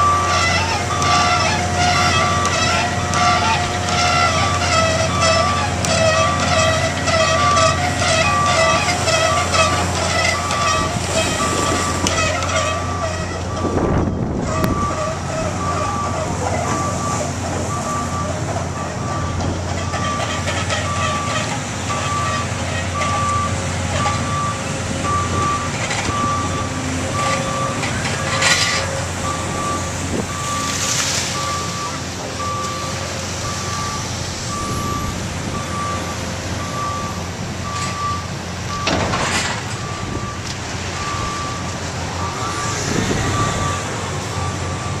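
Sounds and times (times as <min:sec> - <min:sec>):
diesel engine running: 0:00.0 - 0:45.0
backup alarm beeping: 0:07.3 - 0:39.1, 0:39.8 - 0:45.0.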